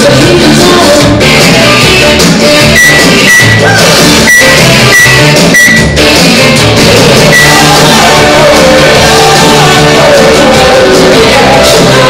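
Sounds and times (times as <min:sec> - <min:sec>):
song with guitar and vocals: 0:00.0 - 0:12.0.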